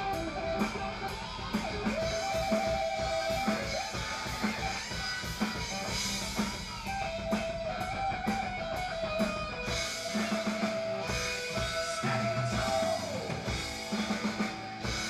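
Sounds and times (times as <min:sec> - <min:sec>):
drum kit steady beat: 0:00.0 - 0:15.0
electric guitar long notes: 0:00.0 - 0:15.0.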